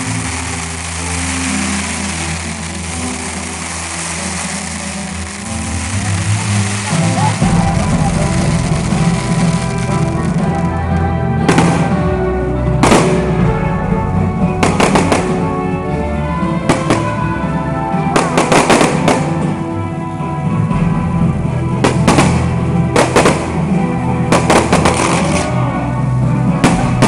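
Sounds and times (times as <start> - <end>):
fireworks bangs: 0.0 - 10.6, 11.4 - 15.8, 16.6 - 19.7, 21.8 - 25.7, 26.6 - 27.0
loud music with held notes: 0.0 - 27.0.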